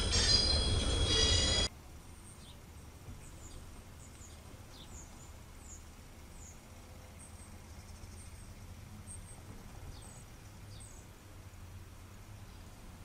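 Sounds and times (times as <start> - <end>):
small birds chirping: 0.0 - 11.5
low outdoor hum: 0.0 - 13.0.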